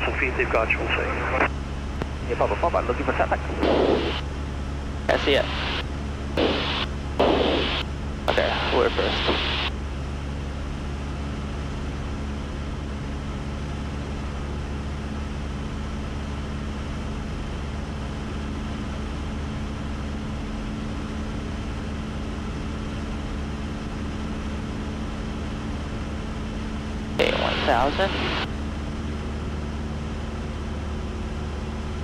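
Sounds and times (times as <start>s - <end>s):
small plane engine droning: 0.0s - 32.0s.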